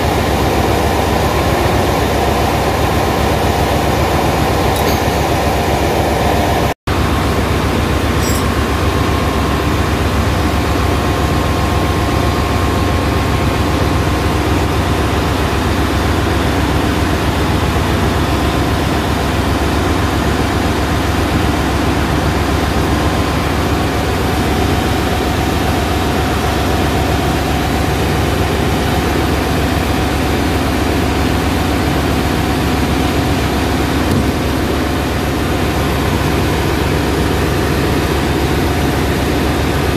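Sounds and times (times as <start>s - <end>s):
heavy diesel engines and pumps droning: 0.0s - 39.9s.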